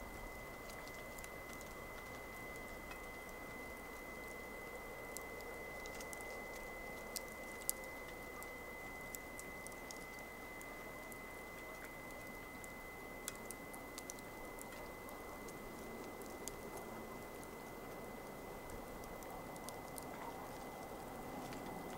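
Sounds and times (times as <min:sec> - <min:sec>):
campfire crackling: 0:00.0 - 0:21.9
faint steady high tone: 0:00.0 - 0:21.9.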